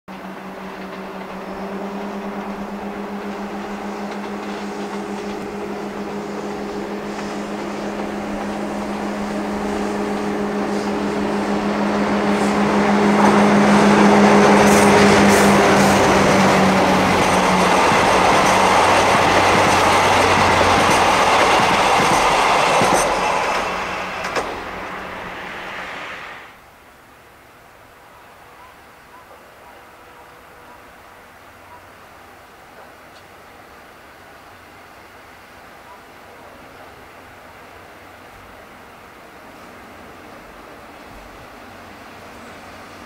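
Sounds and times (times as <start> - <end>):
diesel locomotive engine hum: 0.1 - 43.0
train rumble and rail clatter: 0.1 - 43.0.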